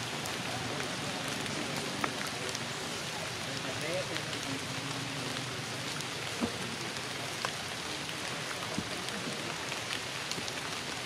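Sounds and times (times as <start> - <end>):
rain pattering on foliage: 0.0 - 11.0.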